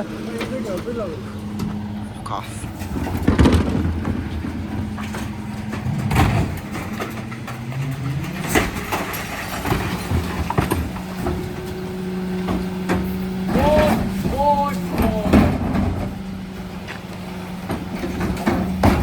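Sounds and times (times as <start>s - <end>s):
truck engine humming: 0.0s - 19.0s
sharp knocks and clatters: 2.7s - 11.8s, 12.4s - 19.0s.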